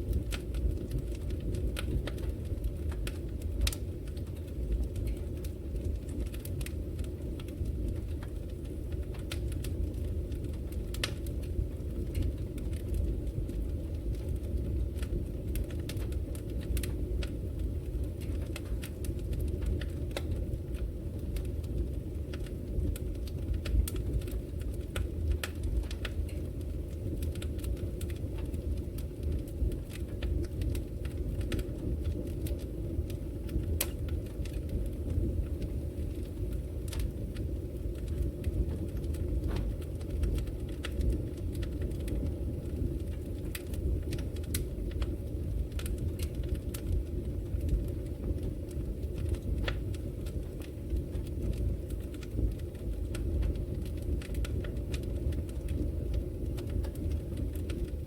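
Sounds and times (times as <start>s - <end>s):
fire crackles and pops: 0.0s - 58.0s
fire flames rumbling: 0.0s - 58.0s.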